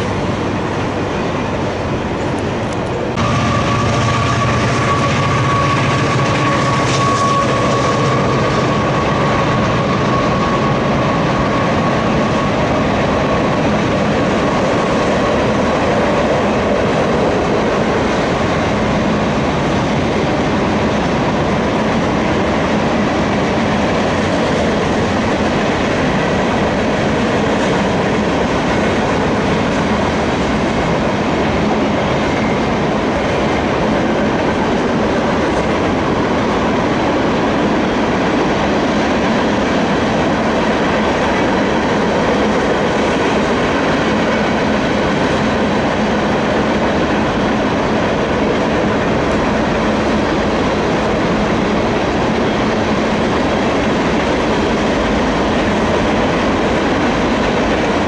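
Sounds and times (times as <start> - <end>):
freight train cars rolling past: 0.0 - 58.0.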